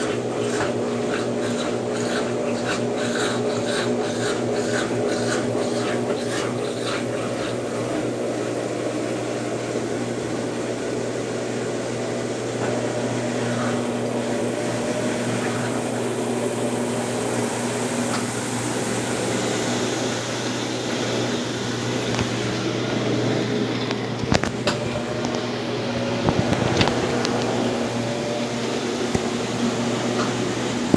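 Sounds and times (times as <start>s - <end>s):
washing machine drum sloshing: 0.0s - 30.9s
washing machine motor hum: 0.0s - 30.9s.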